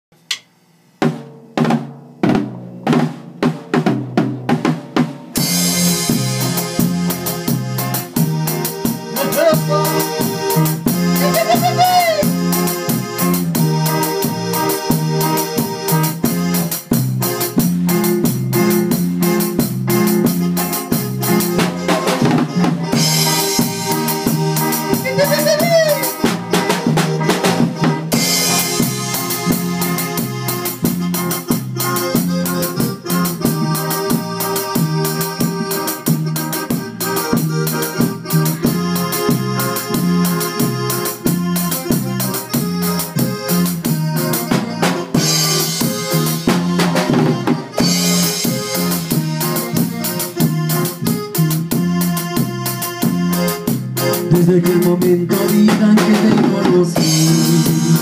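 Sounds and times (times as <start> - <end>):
drum kit playing: 0.1 - 58.0
bass line: 2.2 - 58.0
electronic keyboard melody: 5.3 - 58.0.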